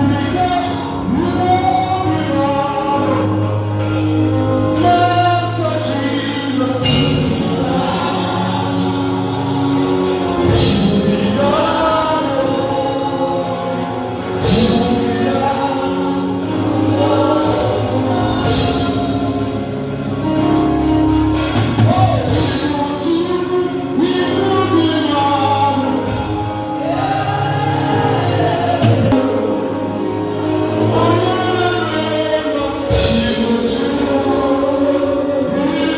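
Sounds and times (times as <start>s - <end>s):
band accompaniment: 0.0s - 35.9s
choir singing: 0.0s - 35.9s.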